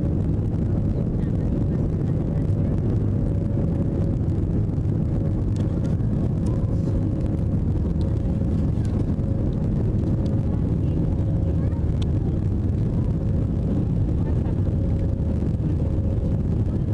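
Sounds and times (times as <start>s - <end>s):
airplane engine and airflow drone: 0.0s - 16.9s
faint steady hum: 0.0s - 16.9s.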